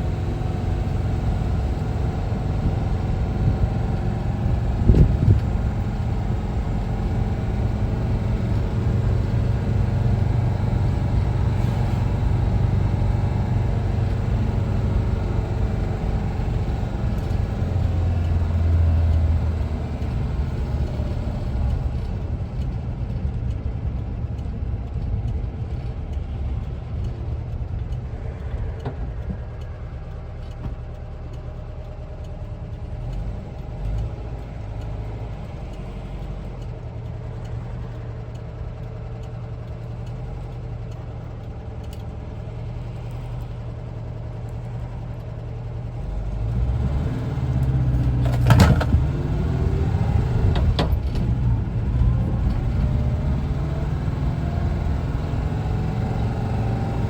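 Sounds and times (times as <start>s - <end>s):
van engine running: 0.0s - 57.0s.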